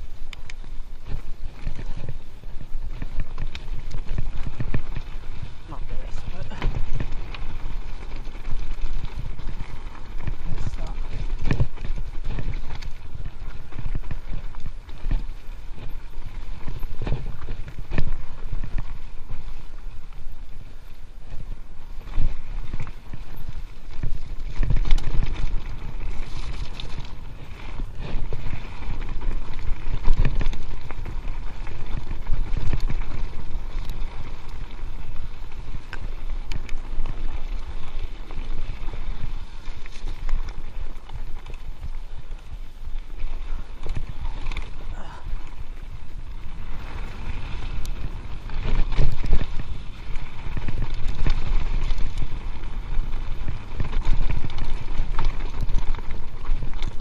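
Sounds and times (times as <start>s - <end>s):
bike knocking and rattling: 0.0s - 57.0s
tyres rolling over dirt and rock: 0.0s - 57.0s
wind rushing over microphone: 0.0s - 57.0s.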